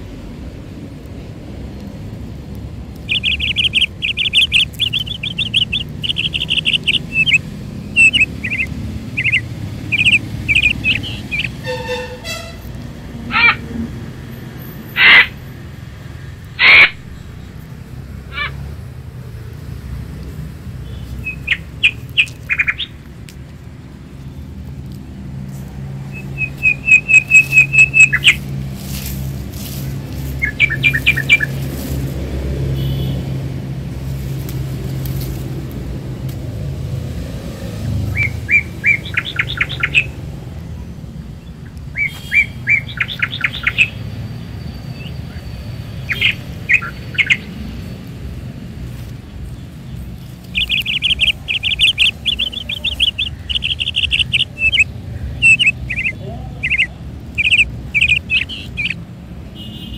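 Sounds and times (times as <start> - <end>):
small birds chirping: 0.8 - 13.7, 14.4 - 59.9.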